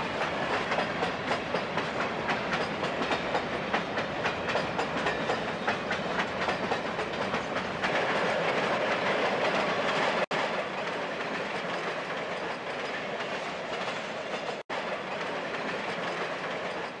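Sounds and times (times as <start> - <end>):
model train rolling on track: 0.0 - 17.0
model train wheels clicking on rails: 0.0 - 17.0.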